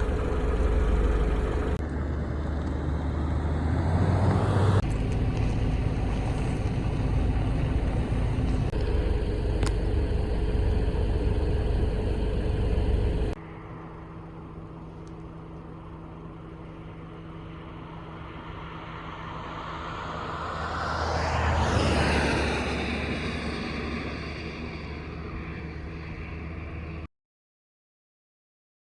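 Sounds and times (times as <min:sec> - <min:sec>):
moving vehicle rumble: 0:00.0 - 0:27.1.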